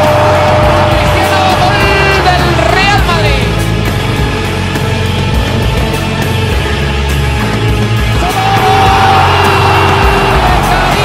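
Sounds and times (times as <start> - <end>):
loud music with pulsing bass: 0.0 - 11.0.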